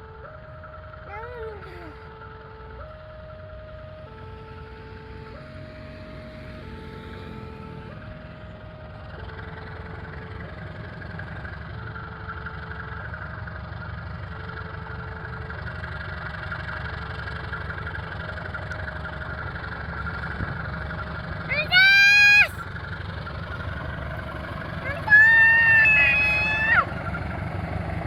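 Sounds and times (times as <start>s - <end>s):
level crossing alarm: 0.0s - 28.0s
train engine rumble: 0.0s - 28.0s
rail noise: 2.3s - 28.0s.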